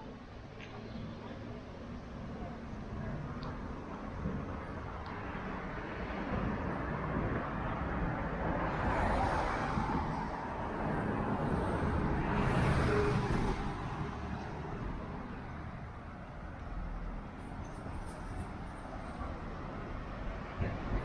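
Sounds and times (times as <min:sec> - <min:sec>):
cars driving past: 0:03.5 - 0:21.0.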